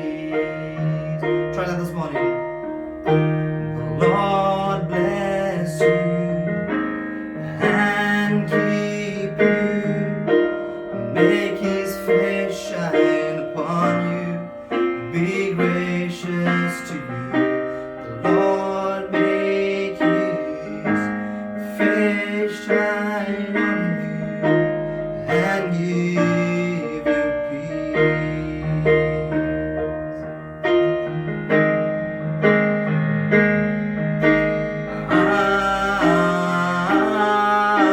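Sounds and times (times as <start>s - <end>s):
keyboard playing sustained chords: 0.0s - 21.9s, 23.0s - 37.9s.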